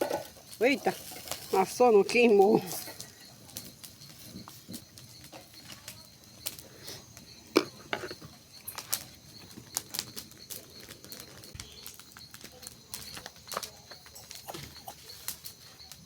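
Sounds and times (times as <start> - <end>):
cooking fire crackling and popping: 0.0 - 16.0.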